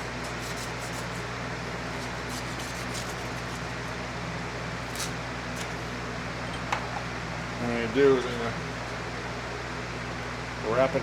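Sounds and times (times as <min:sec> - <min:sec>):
electric fan whirring: 0:00.0 - 0:11.0.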